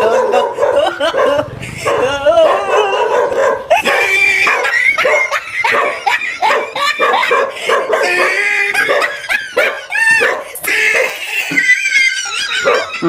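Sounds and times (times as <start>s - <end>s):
dog barking and yelping: 0.0s - 13.0s.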